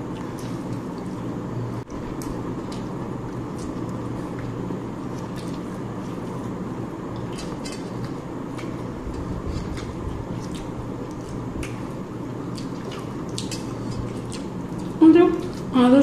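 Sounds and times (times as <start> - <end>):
wet chewing smacks: 0.0 - 1.3, 1.9 - 6.5, 7.1 - 15.7
steady background hum: 0.0 - 16.0.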